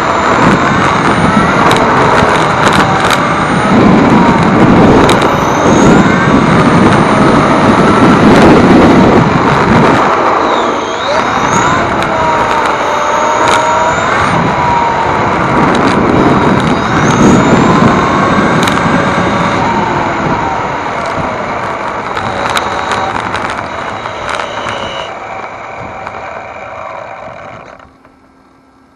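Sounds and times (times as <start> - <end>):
electric motor whine: 0.0 - 28.9
tyre and road noise: 0.0 - 28.9
sharp clicks: 0.3 - 8.0, 9.4 - 28.2.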